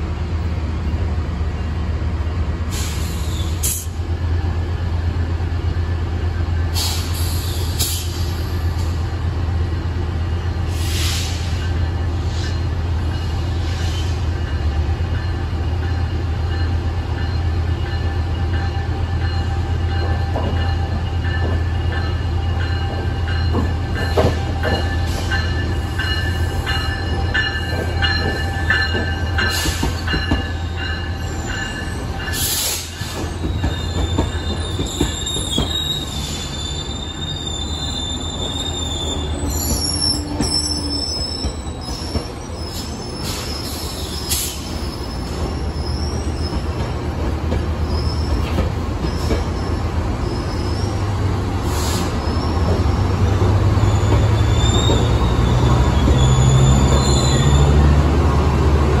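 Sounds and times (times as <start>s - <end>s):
diesel locomotive engine drone: 0.0s - 59.0s
train wheel squeal: 2.7s - 4.0s, 6.5s - 9.0s, 10.5s - 58.2s.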